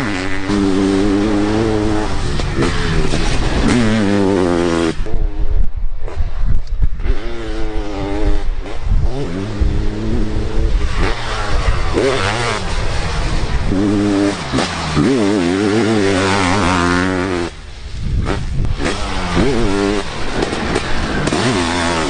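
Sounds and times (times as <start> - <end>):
motorcycle engine revving hard: 0.0 - 22.0.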